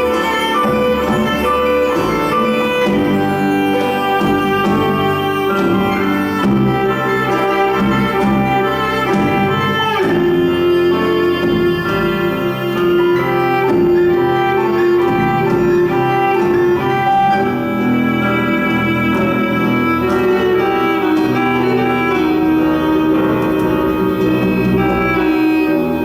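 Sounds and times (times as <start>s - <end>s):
bowed strings music: 0.0s - 26.0s.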